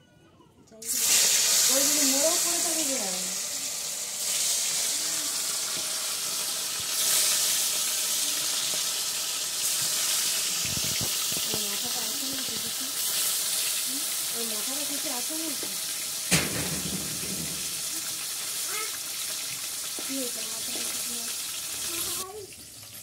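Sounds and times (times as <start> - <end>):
fish frying in hot oil: 0.8 - 23.0.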